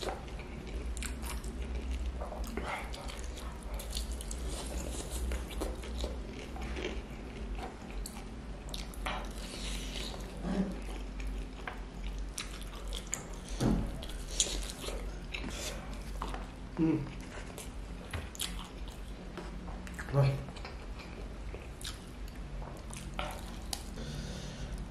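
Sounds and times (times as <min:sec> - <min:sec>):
low steady hum: 0:00.0 - 0:24.9
person chewing food: 0:00.0 - 0:24.9.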